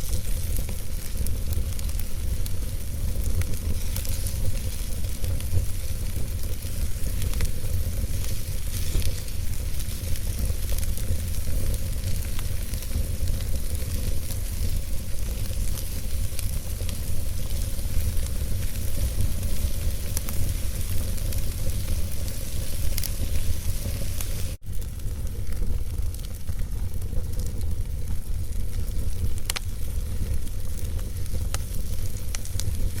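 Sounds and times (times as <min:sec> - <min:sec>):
logs crackling in fire: 0:00.0 - 0:33.0
low fire rumble: 0:00.0 - 0:33.0
sharp pops from fire: 0:00.0 - 0:33.0.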